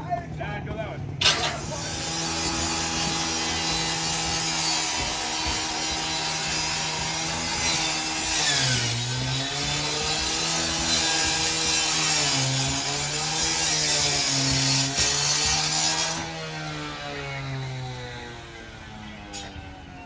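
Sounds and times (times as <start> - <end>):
two-stroke saw running: 1.0 - 20.0.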